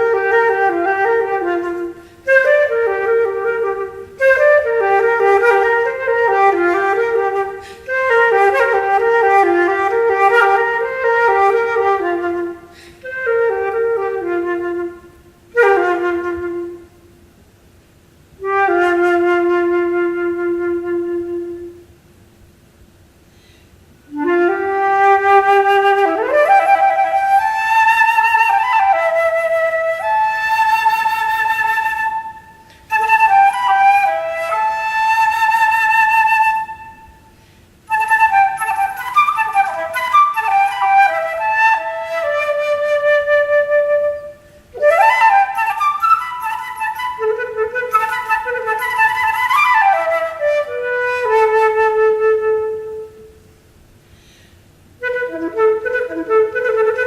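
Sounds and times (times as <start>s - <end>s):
solo flute playing: 0.0s - 17.4s, 18.2s - 22.0s, 23.4s - 53.5s, 54.2s - 57.0s.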